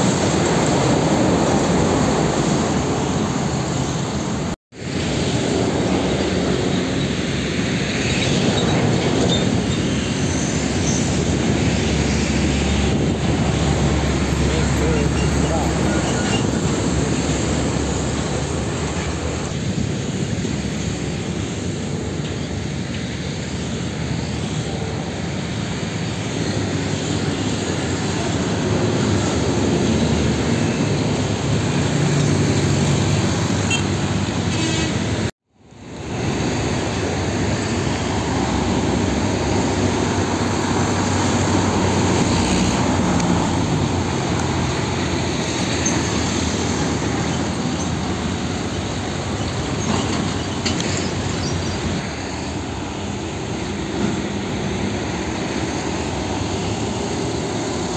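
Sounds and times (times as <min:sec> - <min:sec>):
diesel trucks driving past: 0:00.0 - 0:57.9.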